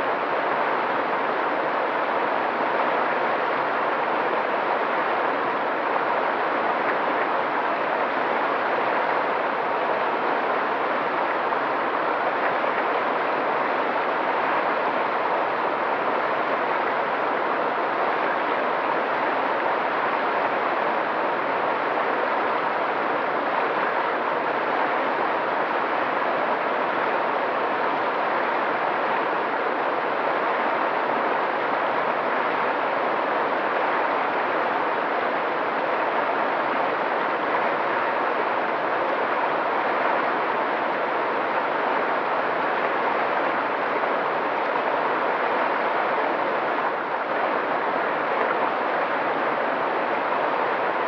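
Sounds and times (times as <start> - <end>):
stream flowing over rocks: 0.0 - 51.0.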